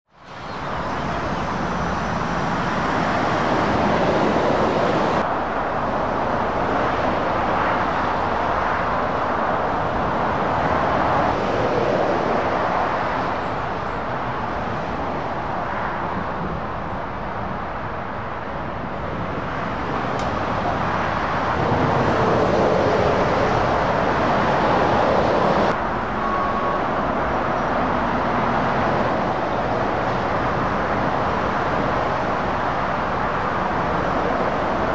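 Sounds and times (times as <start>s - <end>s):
road traffic passing: 0.1s - 34.9s.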